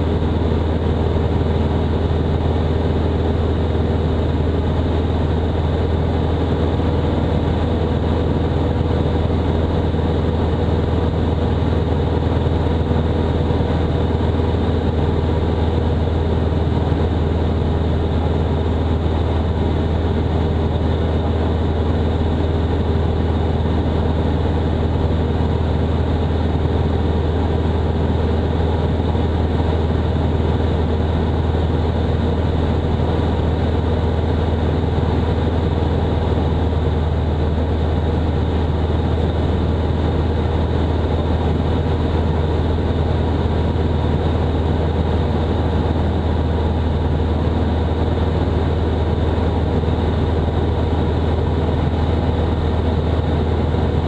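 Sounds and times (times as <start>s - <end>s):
aircraft engine drone in cabin: 0.0s - 54.0s.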